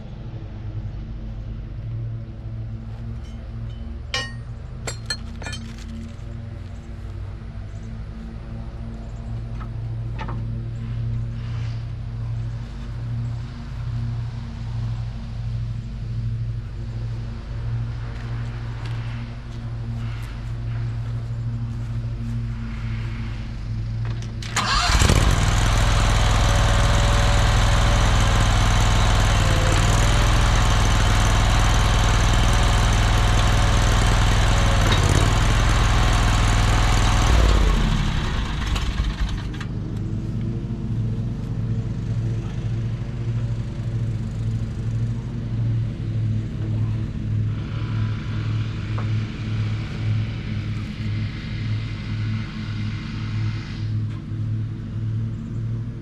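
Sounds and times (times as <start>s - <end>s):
skid steer engine: 8.6s - 56.0s.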